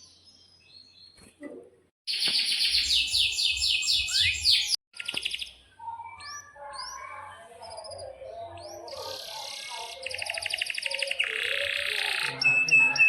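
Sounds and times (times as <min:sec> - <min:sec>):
canary chirping and warbling: 0:02.1 - 0:13.0
canary trilling: 0:02.1 - 0:13.0.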